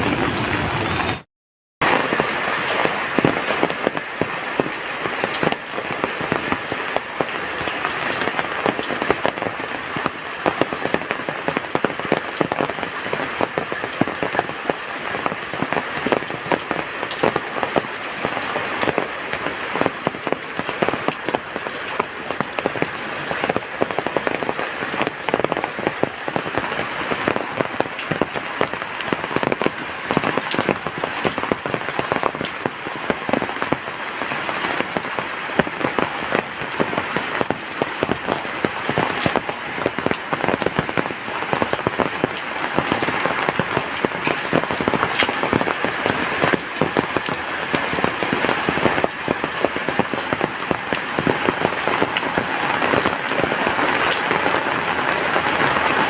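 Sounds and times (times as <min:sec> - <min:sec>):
close raindrops striking sharply: 0:00.0 - 0:56.0
heavy rain falling: 0:00.0 - 0:56.0.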